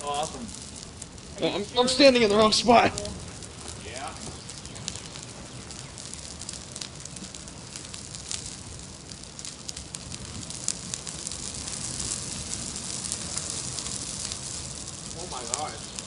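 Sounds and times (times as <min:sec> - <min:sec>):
fire crackling and popping: 0:00.0 - 0:16.0
fire rushing: 0:00.0 - 0:16.0.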